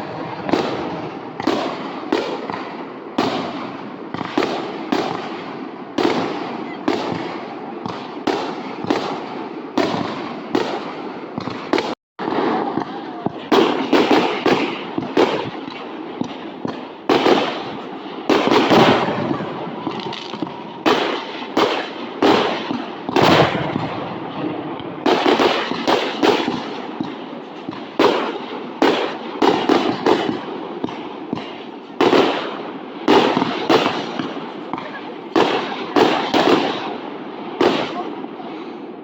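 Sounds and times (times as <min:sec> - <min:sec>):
fireworks bursting with rumbling echo: 0:00.0 - 0:39.0.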